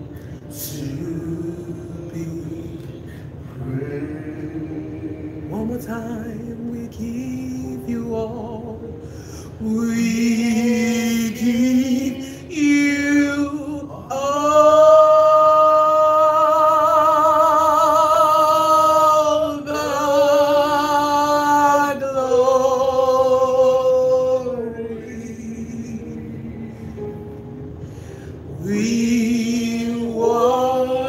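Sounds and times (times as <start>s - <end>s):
person singing with vibrato: 0.0s - 27.1s, 28.3s - 31.0s
sustained background tone: 0.0s - 31.0s.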